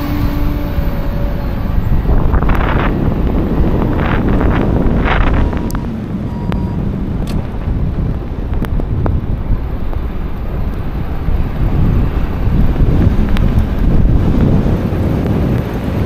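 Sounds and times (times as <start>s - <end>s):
vehicle road noise: 0.0s - 16.0s
wind buffeting microphone: 0.0s - 16.0s.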